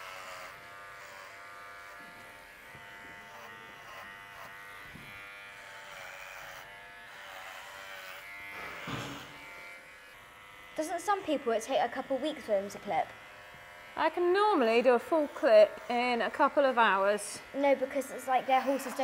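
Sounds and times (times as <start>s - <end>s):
electric clippers buzzing: 0.0s - 19.0s.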